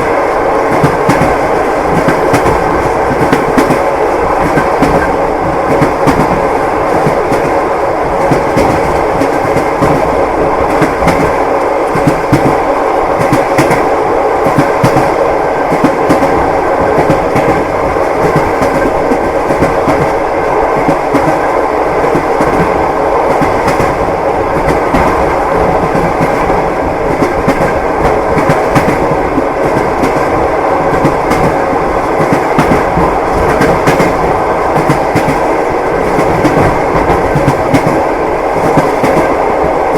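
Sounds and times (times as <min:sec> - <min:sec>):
train rumble and rattle: 0:00.0 - 0:39.9
train wheels clacking on rails: 0:00.0 - 0:39.9.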